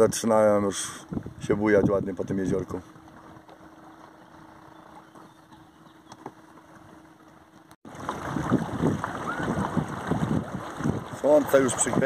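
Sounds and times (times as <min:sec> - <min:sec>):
wind buffeting microphone: 0:00.0 - 0:07.0, 0:07.9 - 0:12.0
water lapping against boat: 0:00.4 - 0:12.0
water slapping hull: 0:01.1 - 0:12.0.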